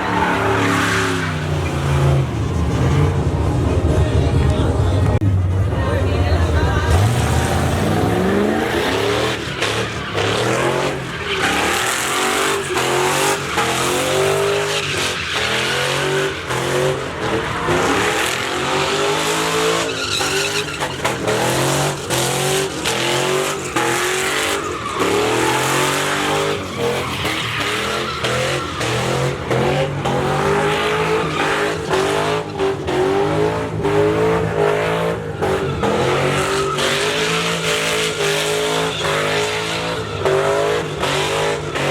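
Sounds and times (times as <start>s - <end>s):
tires squealing: 0.0s - 41.9s
truck engine revving: 0.0s - 41.9s.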